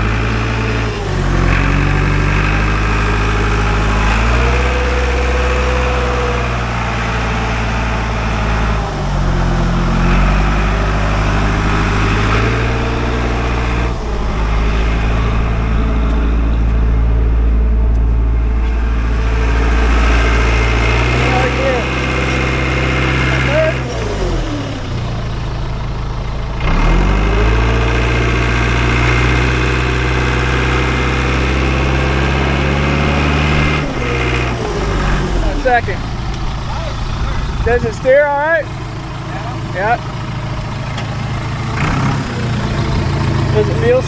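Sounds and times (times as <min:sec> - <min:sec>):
crawler loader engine running: 0:00.0 - 0:44.0.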